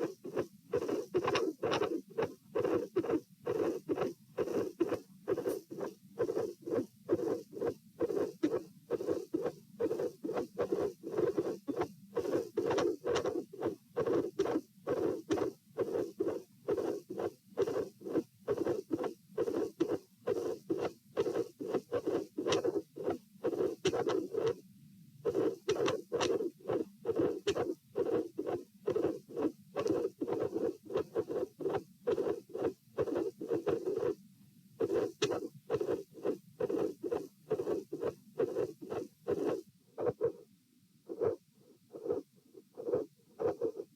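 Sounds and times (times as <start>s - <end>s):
heartbeat through stethoscope: 0.0s - 24.6s, 25.2s - 34.2s, 34.8s - 40.4s, 41.1s - 43.9s.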